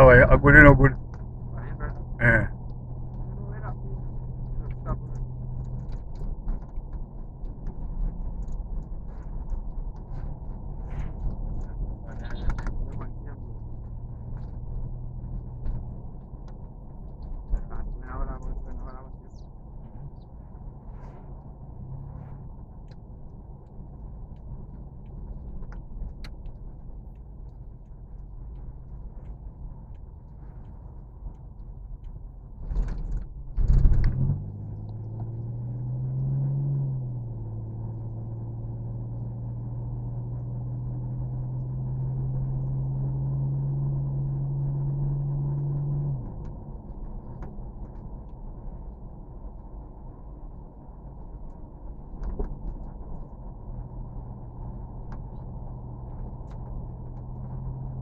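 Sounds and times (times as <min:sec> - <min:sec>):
steady low hum: 0:00.0 - 0:58.0
vehicle rumble: 0:00.0 - 0:58.0.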